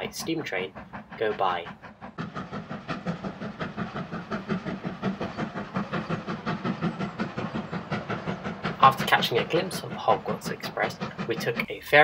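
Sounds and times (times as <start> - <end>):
steam locomotive exhaust chuffing: 0.0 - 12.0.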